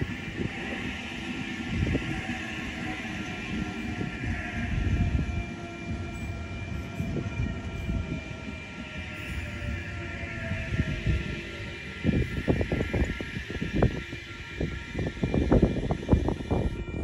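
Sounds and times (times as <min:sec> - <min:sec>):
steady high-pitched tones: 0:00.0 - 0:17.0
train wheel rumble: 0:00.0 - 0:17.0.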